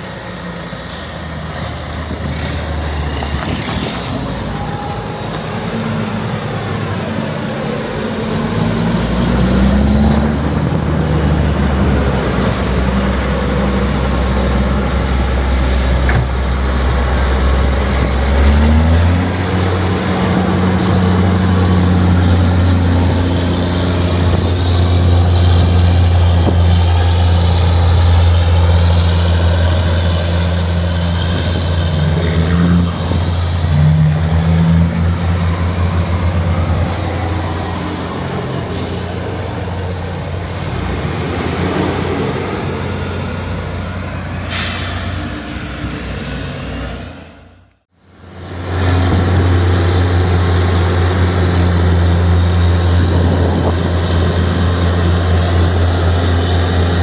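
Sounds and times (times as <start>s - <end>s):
diesel farm machinery running: 0.0s - 57.0s.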